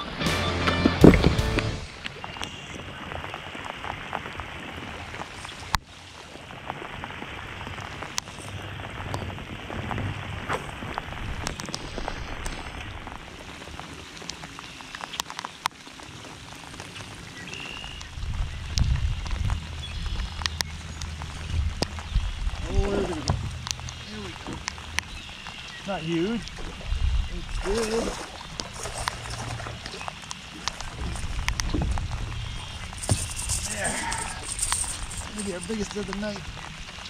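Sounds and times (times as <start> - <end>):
rain falling on water: 0.0 - 37.0
raindrop ticks: 1.6 - 5.9, 6.5 - 37.0.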